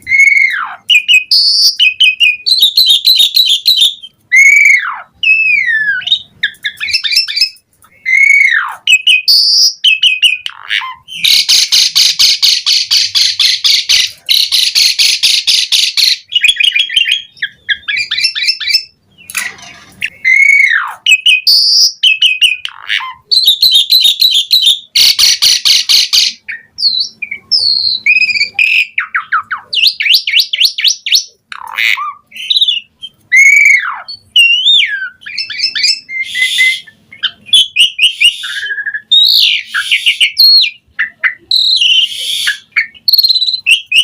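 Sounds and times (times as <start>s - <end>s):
starling singing: 0.0s - 44.0s.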